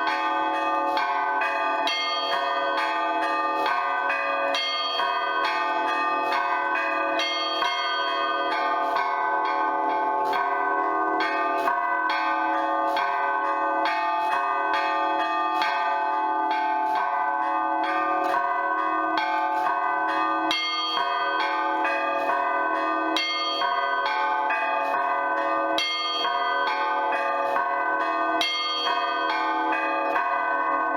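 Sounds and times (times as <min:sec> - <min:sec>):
church bells ringing: 0:00.0 - 0:30.9
small treble bells: 0:00.0 - 0:30.9.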